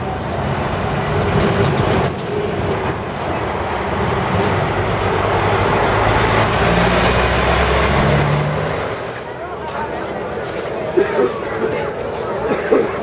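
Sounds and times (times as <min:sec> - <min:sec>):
large vehicle engine droning: 0:00.0 - 0:10.4
road noise: 0:00.0 - 0:13.0.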